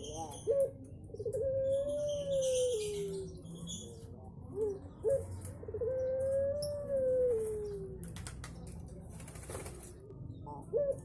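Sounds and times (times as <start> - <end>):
dove cooing: 0.0 - 8.2, 9.8 - 11.0
small birds chirping: 0.0 - 11.0.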